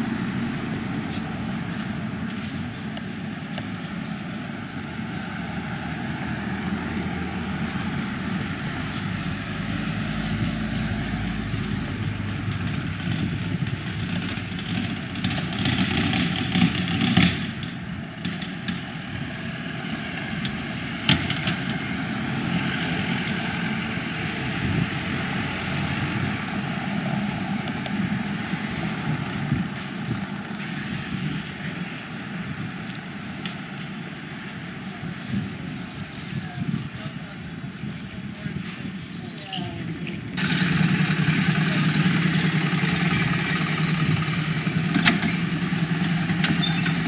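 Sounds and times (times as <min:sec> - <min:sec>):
loud vehicle passing: 0:00.0 - 0:35.9, 0:40.2 - 0:47.0
passing cars rumbling: 0:00.0 - 0:47.0.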